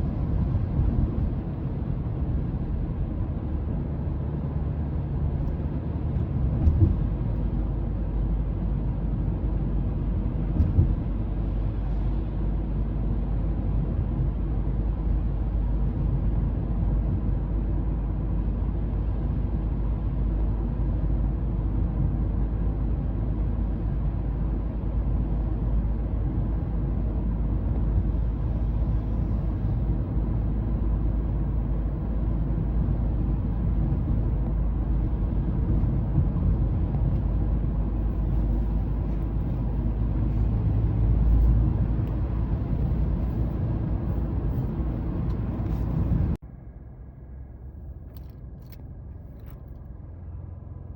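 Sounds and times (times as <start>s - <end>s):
tyre and engine rumble in car: 0.0s - 50.9s.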